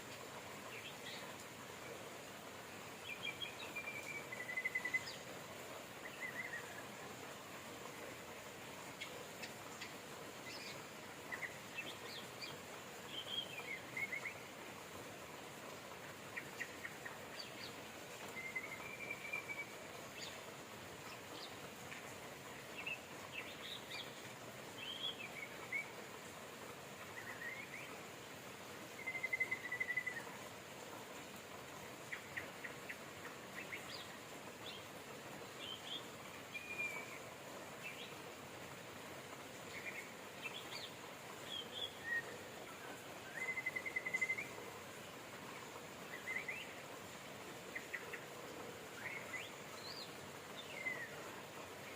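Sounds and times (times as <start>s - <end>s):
rain hissing: 0.0s - 51.9s.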